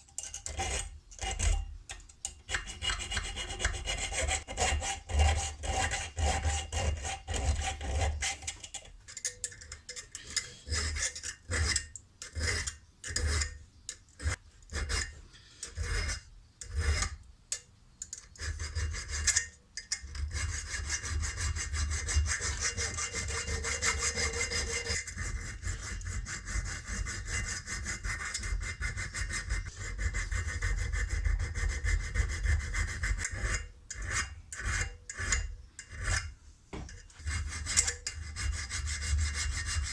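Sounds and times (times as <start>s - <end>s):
metal scraping by hand: 2.4s - 13.6s, 14.2s - 17.2s, 18.2s - 39.9s.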